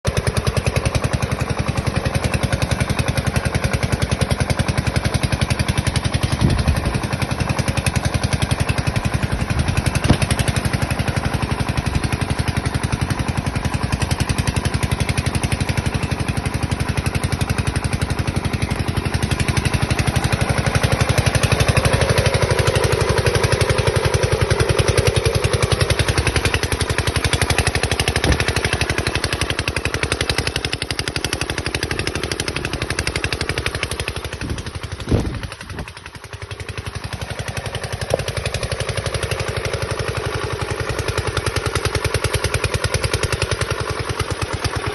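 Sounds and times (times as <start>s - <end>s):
tractor engine running: 0.0s - 44.9s
sharp engine knocks: 0.1s - 44.8s.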